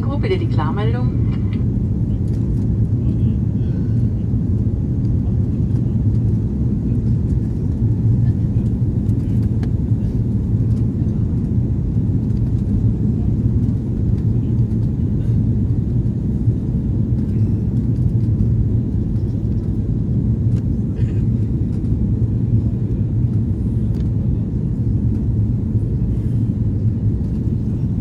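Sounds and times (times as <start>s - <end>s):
airplane cabin low rumble: 0.0s - 28.0s.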